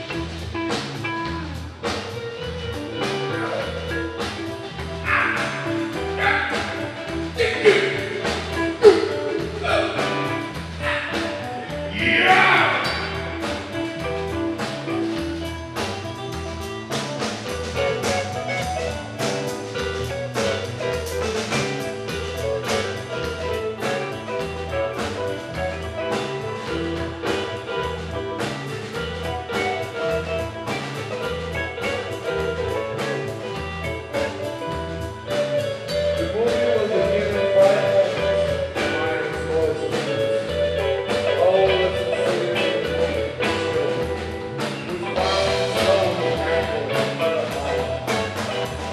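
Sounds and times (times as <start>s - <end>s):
keyboard chords: 0.0s - 48.9s
pulsing bass: 0.0s - 48.9s
sliding bending notes: 0.0s - 48.9s
steady drum beat: 0.0s - 48.9s.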